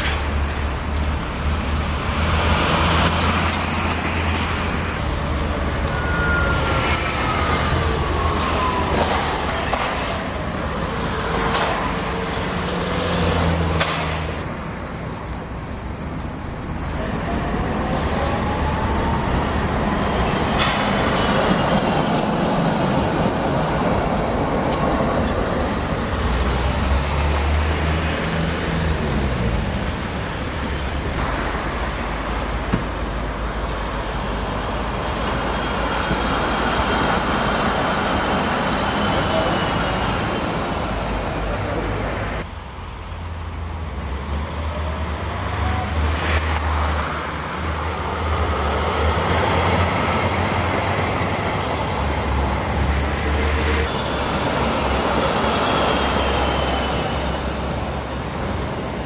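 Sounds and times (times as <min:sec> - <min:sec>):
traffic: 0:00.0 - 0:59.0
tram wheels rumbling on rails: 0:00.0 - 0:59.0
tram whine: 0:00.0 - 0:59.0.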